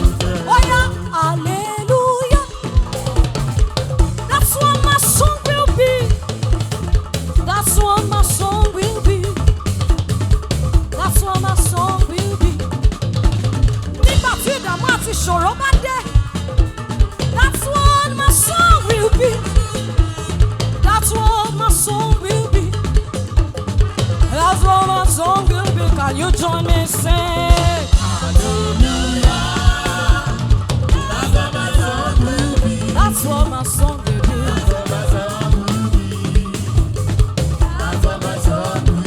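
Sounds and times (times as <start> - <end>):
drum kit with snare hits: 0.0 - 39.0
upbeat worship band music: 0.0 - 39.0.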